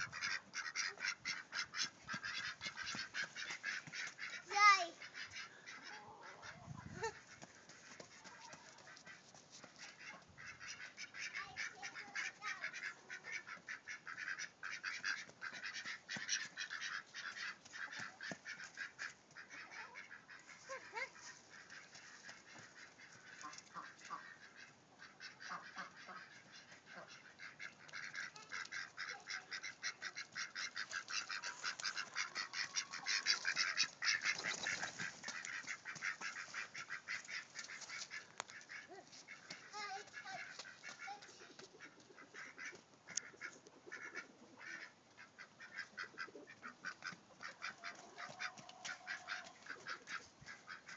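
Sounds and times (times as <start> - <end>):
ducks quacking: 0.0 - 50.9.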